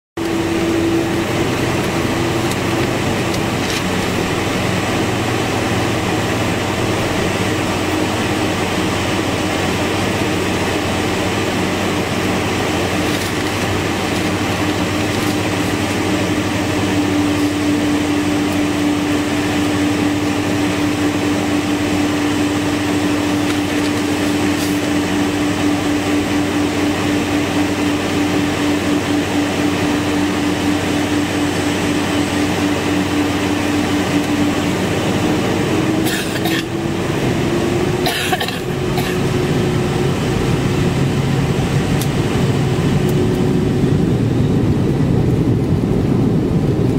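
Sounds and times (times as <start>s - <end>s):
jet engine hum: 0.2s - 46.9s
steady whine: 0.2s - 46.9s.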